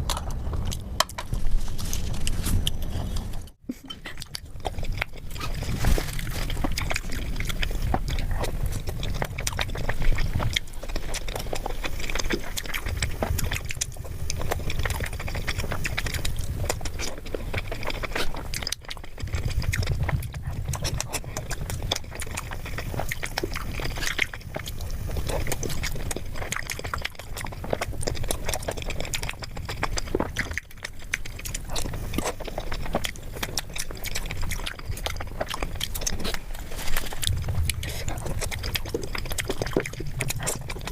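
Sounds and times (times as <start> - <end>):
chewing and biting: 0.0 - 40.9.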